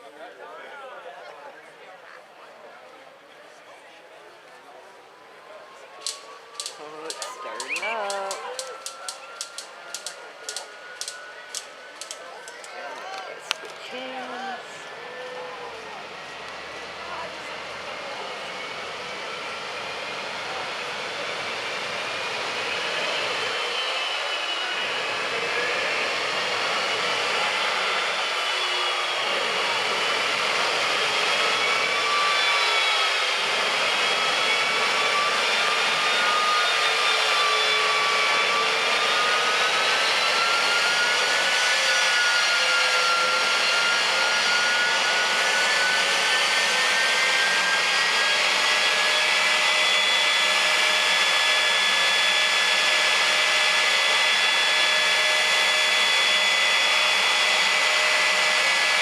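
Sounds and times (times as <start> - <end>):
jet turbine engine whine: 0.0 - 59.0.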